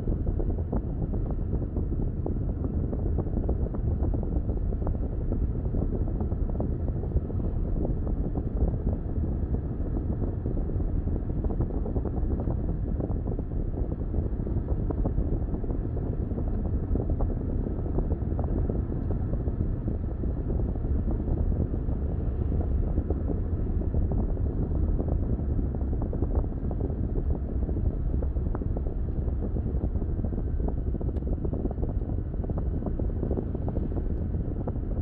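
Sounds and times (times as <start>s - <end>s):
car driving rumble: 0.0s - 35.0s
wind noise: 0.0s - 35.0s.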